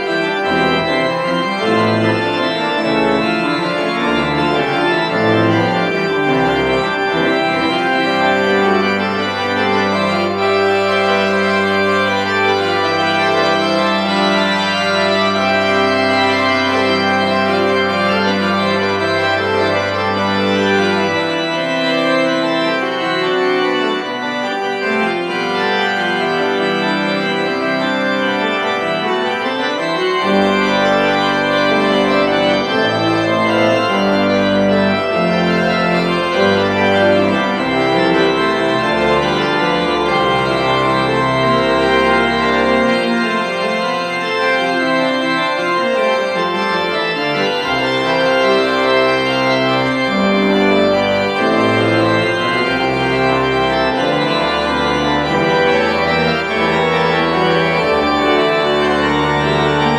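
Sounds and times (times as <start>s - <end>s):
church pipe organ playing: 0.0s - 59.9s.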